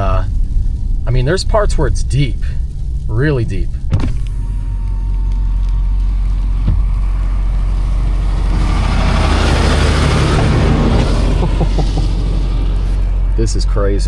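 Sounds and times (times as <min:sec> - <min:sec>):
broad hiss: 0:00.0 - 0:14.0
pickup engine and road rumble: 0:00.0 - 0:14.0.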